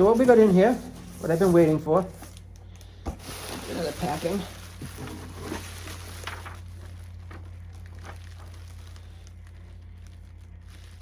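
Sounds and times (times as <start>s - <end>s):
packing material rustling: 0.0s - 11.0s
steady low hum: 0.0s - 11.0s.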